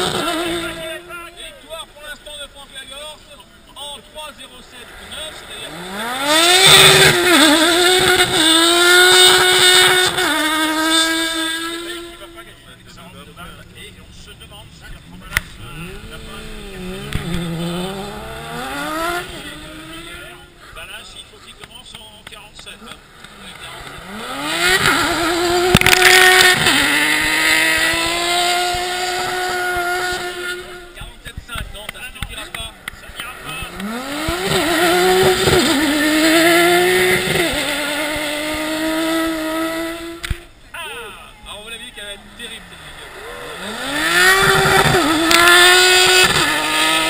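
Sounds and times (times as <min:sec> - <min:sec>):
race car engine revving: 0:00.0 - 0:40.6, 0:41.5 - 0:47.0.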